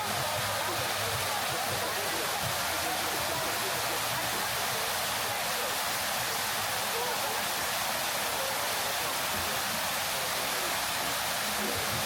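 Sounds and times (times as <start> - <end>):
fountain water splashing: 0.0 - 12.0
people talking: 0.0 - 12.0.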